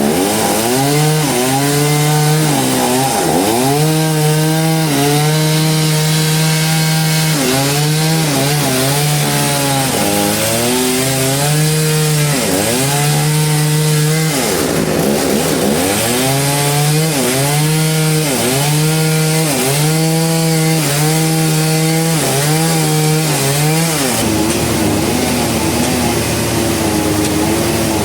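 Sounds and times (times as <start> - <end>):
chainsaw cutting log: 0.0 - 28.0.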